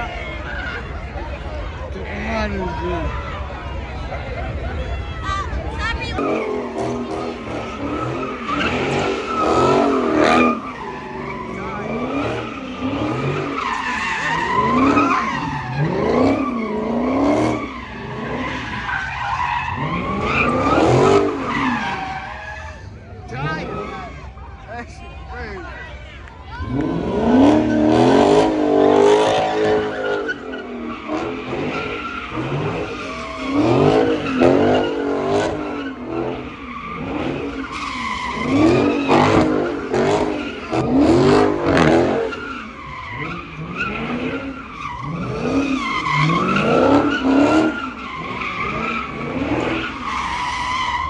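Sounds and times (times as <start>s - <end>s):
car engine revving: 0.0s - 51.0s
tyres skidding and squealing: 0.0s - 51.0s.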